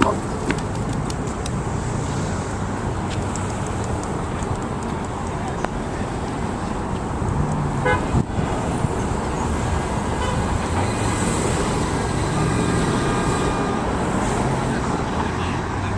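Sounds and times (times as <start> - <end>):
road traffic rumble: 0.0 - 15.9.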